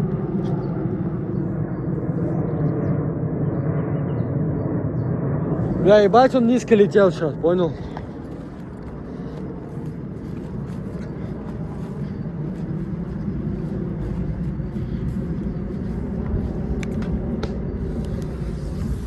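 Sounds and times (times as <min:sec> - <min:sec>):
aircraft flying low overhead: 0:00.0 - 0:19.0.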